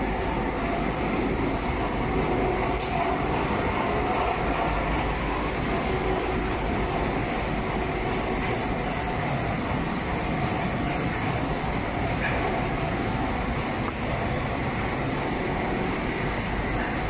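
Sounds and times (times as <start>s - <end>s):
furnace machine running: 0.0s - 17.0s.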